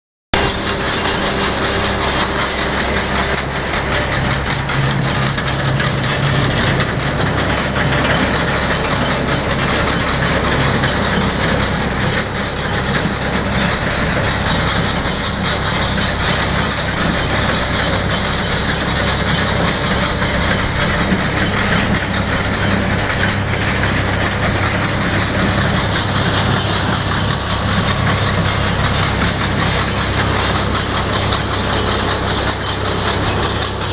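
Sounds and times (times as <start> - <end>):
tractor engine droning: 0.3 - 33.9
baler mechanism clattering: 0.4 - 33.9.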